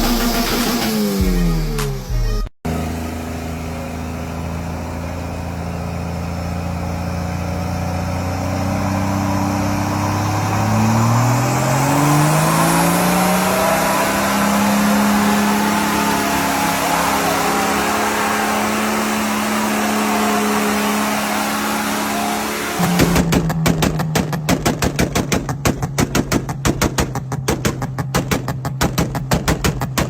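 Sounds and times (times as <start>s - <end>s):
car engine pulling under load: 2.7s - 28.8s.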